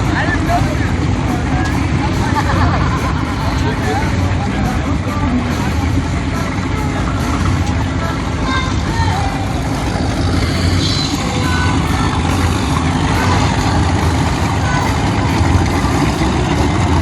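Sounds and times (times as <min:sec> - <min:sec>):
engine idling: 0:00.0 - 0:17.0
faint voices: 0:00.0 - 0:17.0.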